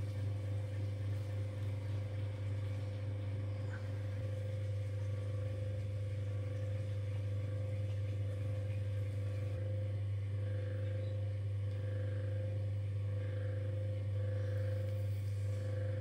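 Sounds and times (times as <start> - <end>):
potter's wheel motor humming: 0.0 - 16.0.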